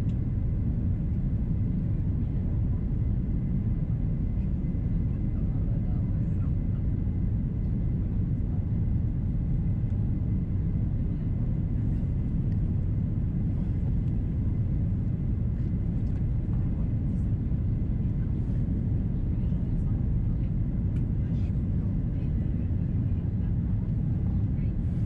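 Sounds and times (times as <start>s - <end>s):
airplane cabin engine rumble: 0.0s - 25.0s.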